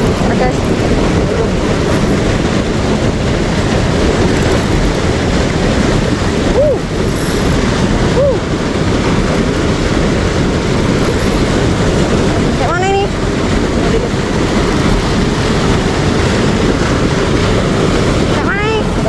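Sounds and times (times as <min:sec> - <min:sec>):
river water rushing through rapid: 0:00.0 - 0:19.0.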